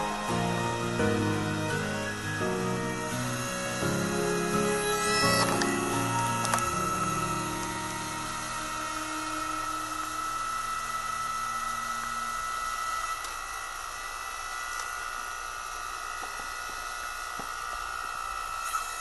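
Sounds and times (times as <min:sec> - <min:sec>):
log splitter motor whining: 0:00.0 - 0:19.0
low hum: 0:00.0 - 0:19.0.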